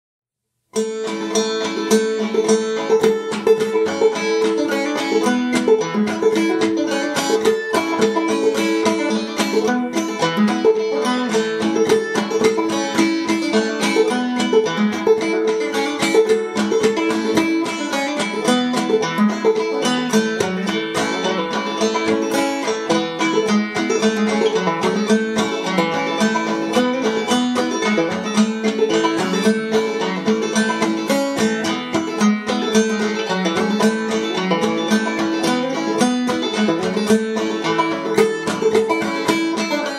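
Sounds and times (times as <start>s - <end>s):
banjo playing old-time tune: 0.8s - 39.9s.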